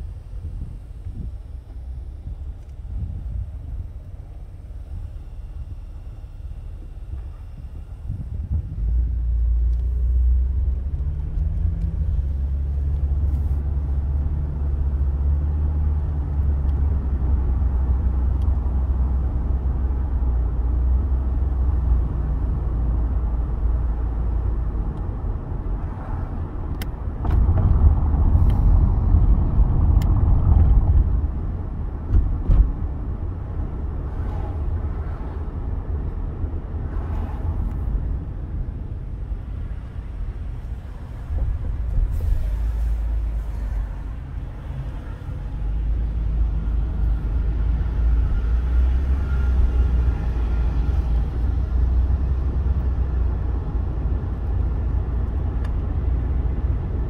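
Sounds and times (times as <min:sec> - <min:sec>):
car engine and tyre hum: 0:00.0 - 0:57.0.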